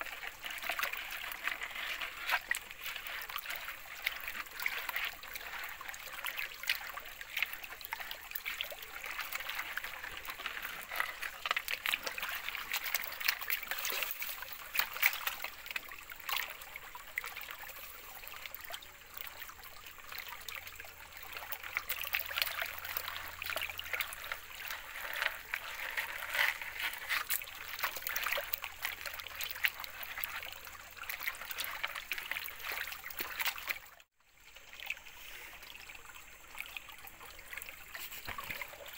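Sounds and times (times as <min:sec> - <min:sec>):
small crackles of gravel: 0:00.0 - 0:19.5, 0:20.9 - 0:34.0, 0:37.4 - 0:38.9
water sloshing and trickling in a pan: 0:00.0 - 0:38.9.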